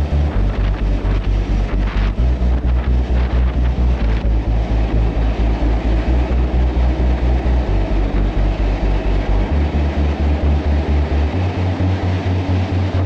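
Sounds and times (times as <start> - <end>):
locomotive engine throbbing: 0.0 - 13.0
train rumble: 0.0 - 13.0.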